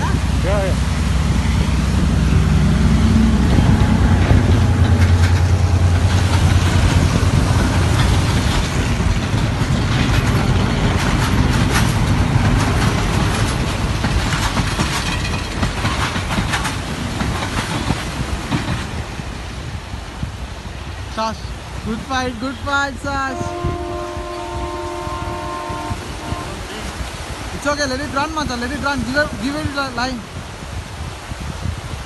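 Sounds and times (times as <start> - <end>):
waves breaking on rocks: 0.0 - 32.0
wind buffeting microphone: 0.0 - 32.0.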